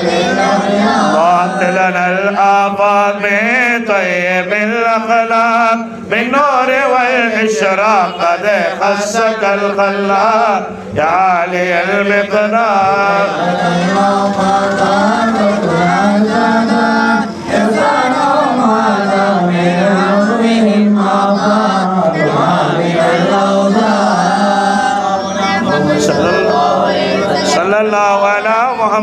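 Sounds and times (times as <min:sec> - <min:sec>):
men chanting together: 0:00.0 - 0:29.0.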